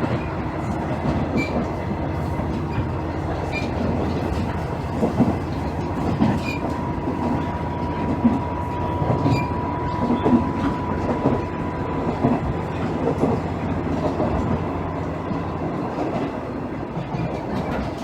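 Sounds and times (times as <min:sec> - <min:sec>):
diesel railcar engine hum: 0:00.0 - 0:18.0
train wheel clicks: 0:00.0 - 0:18.0.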